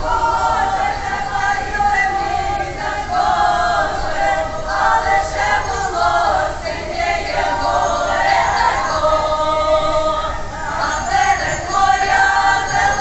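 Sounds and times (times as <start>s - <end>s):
mixed choir singing: 0.0s - 13.0s.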